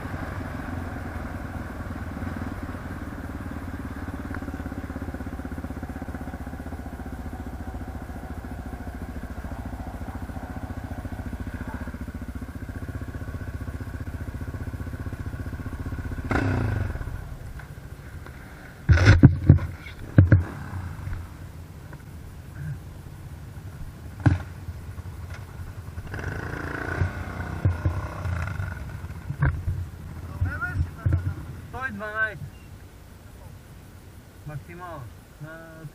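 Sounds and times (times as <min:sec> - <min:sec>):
atv engine running: 0:00.0 - 0:33.2.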